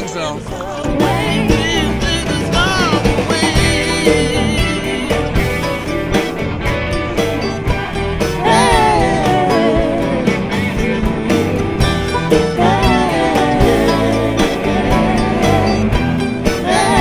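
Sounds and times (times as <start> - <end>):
song with beat and guitar: 0.0 - 17.0.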